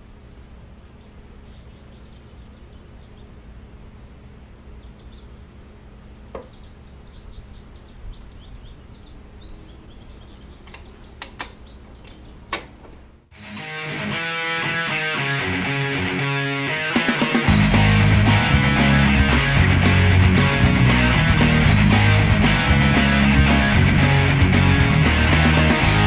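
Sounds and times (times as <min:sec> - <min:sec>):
low garage hum: 0:00.0 - 0:14.8, 0:17.4 - 0:26.0.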